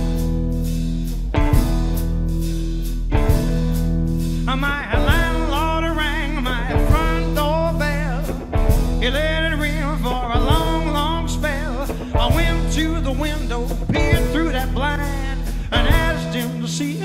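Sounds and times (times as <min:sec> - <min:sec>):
upright double bass: 0:00.0 - 0:16.7
electric guitar: 0:00.0 - 0:17.0.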